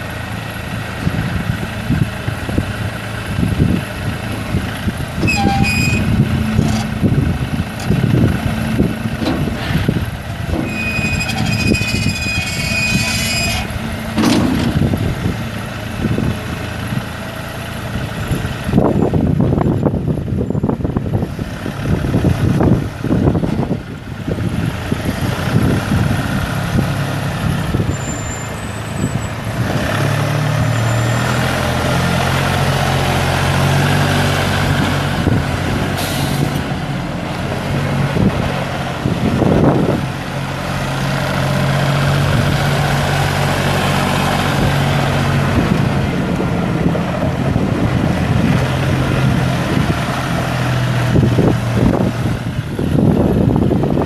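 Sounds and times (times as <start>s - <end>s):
tires on gravel: 0.0s - 54.0s
tractor diesel engine running: 0.0s - 54.0s.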